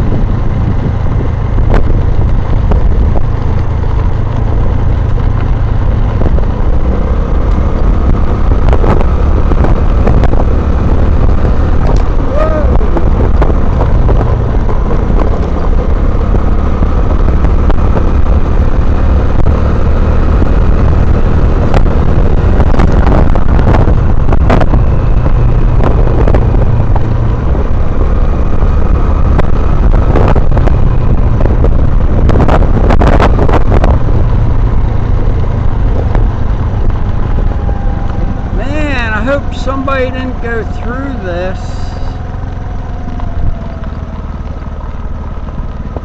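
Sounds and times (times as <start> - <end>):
wind rumbling on microphone: 0.0 - 46.0.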